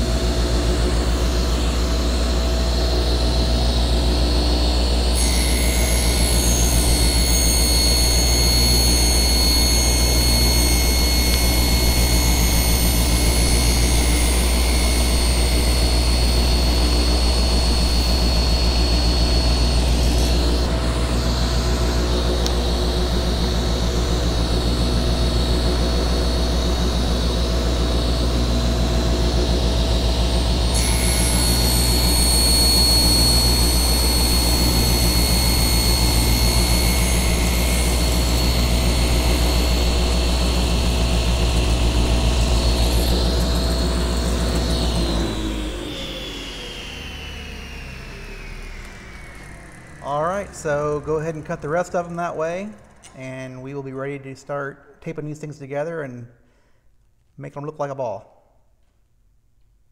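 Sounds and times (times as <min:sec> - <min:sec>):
table saw running: 0:00.0 - 0:54.3.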